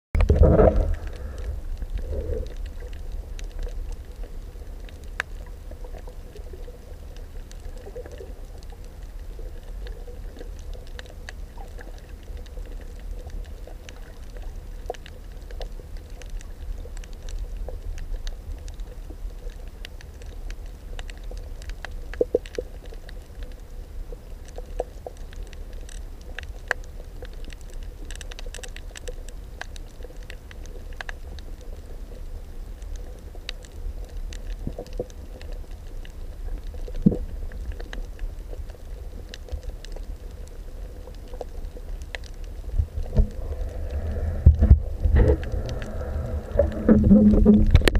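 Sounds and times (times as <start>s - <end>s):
low rumble of moving water: 0.2s - 47.9s
underwater clicks and crackles: 0.2s - 47.9s.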